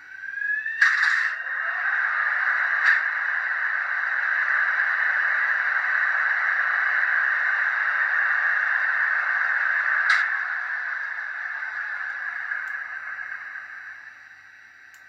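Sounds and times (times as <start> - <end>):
steady rushing noise: 0.3 - 14.9.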